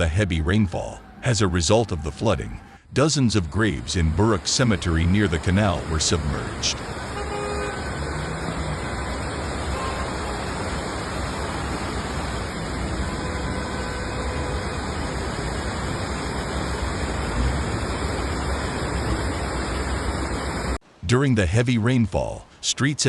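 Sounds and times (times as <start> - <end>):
floodwater rushing: 0.0 - 20.8.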